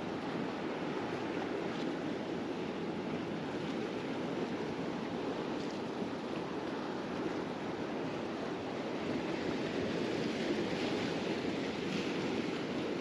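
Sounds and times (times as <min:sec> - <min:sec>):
waves and surf: 0:00.0 - 0:13.0
wind: 0:00.0 - 0:13.0.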